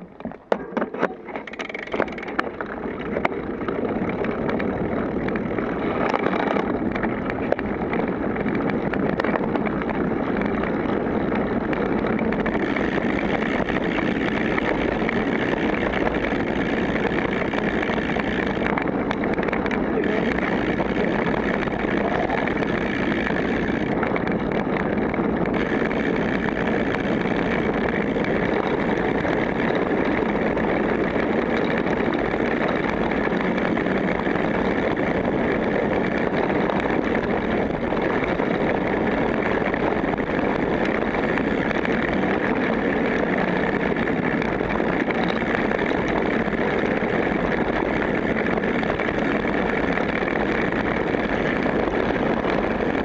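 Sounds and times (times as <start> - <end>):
bike tyres rumbling on dirt: 0.0 - 53.0
wind on microphone: 0.0 - 53.0.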